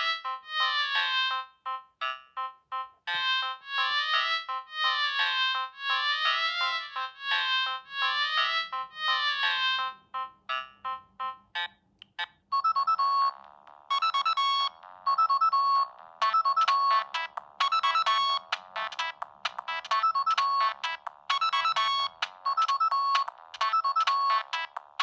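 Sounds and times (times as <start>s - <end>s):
mobile phone ringtone: 0.0s - 25.0s.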